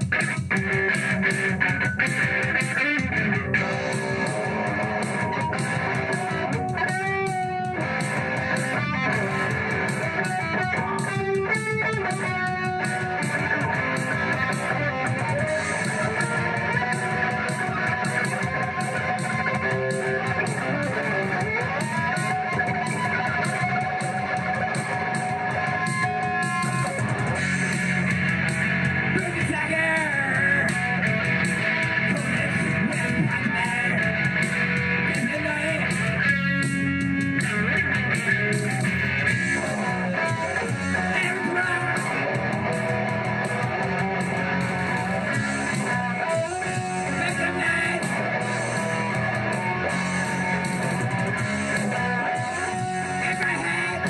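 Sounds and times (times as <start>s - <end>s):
electric guitar strumming: 0.0s - 54.0s.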